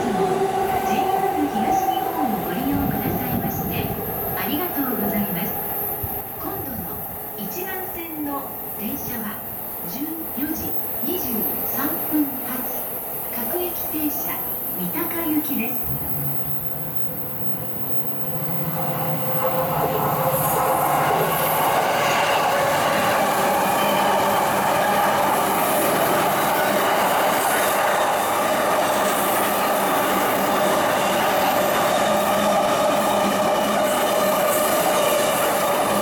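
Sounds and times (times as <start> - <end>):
electric train running past: 0.0 - 36.0.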